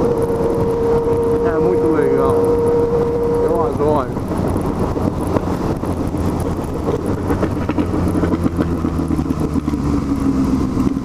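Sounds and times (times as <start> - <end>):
motorcycle engine cruising: 0.0 - 11.0
wind noise: 0.0 - 11.0.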